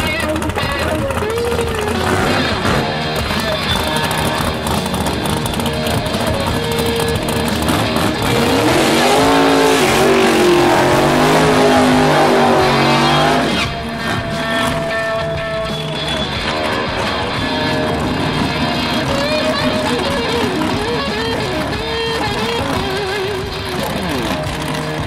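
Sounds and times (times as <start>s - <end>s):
tyres spinning: 0.0s - 25.0s
car engine revving hard: 1.7s - 25.0s.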